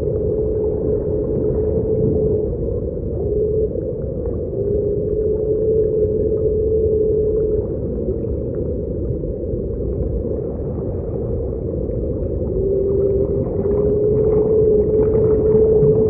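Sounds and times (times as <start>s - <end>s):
deep underwater rumble: 0.0s - 16.0s
whale-like call: 0.0s - 16.0s.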